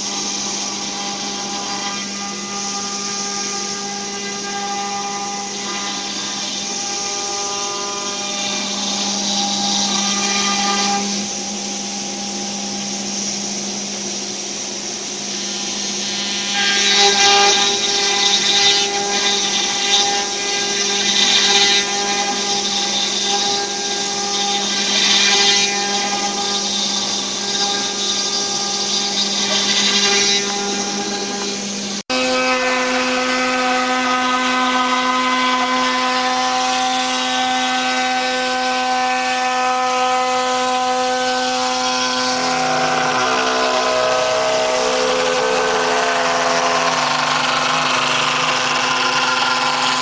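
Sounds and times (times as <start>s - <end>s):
electric spindle whine: 0.0s - 50.0s
router bit cutting wood: 0.0s - 50.0s.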